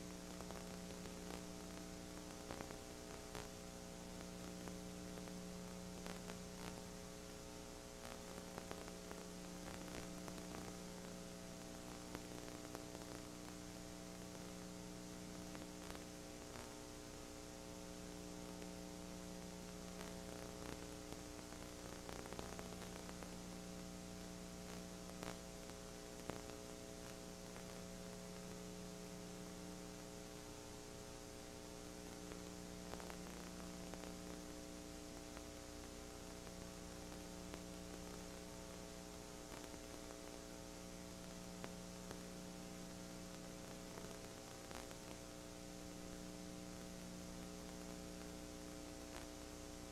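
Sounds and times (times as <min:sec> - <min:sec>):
electrical hum: 0:00.0 - 0:49.9
static hiss: 0:00.0 - 0:49.9.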